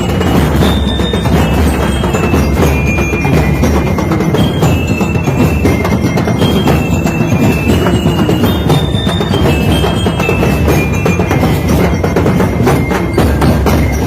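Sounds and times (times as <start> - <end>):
high melody of held notes: 0.0 - 14.0
loud drumming: 0.0 - 14.0.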